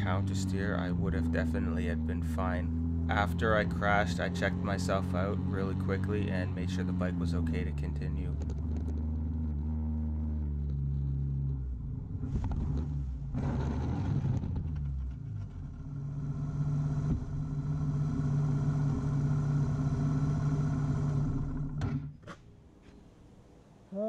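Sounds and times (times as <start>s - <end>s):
motorcycle sliding along road: 0.0s - 21.8s
motorcycle engine running: 0.0s - 22.1s.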